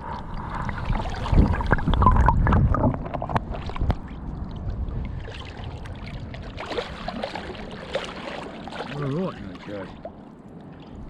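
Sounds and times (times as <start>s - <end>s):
seawater sloshing: 0.0s - 11.0s.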